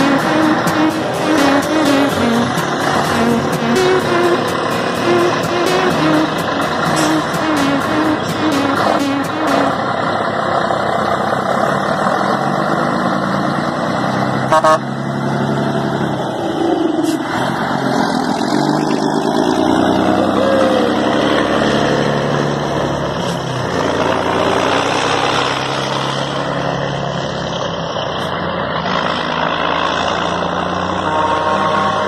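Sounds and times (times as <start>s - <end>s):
truck diesel engine pulling away: 0.0s - 32.0s.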